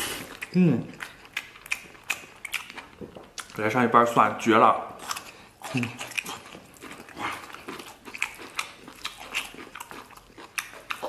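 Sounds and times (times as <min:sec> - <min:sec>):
chewing and wet lip-smacking: 0:00.0 - 0:03.8, 0:04.9 - 0:11.0.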